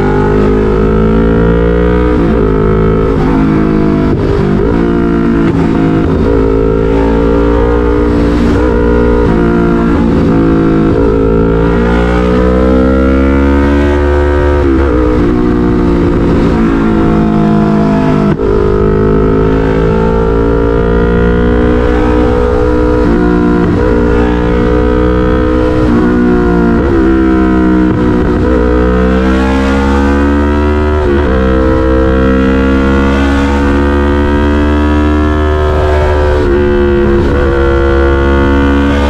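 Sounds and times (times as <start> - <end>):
motorcycle engine at highway speed: 0.0 - 39.0.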